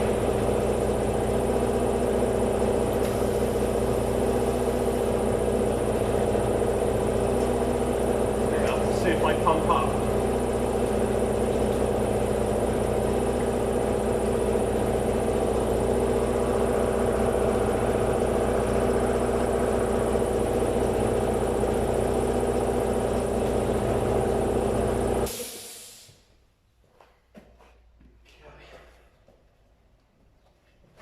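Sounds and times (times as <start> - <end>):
air compressor motor running: 0.0 - 26.2.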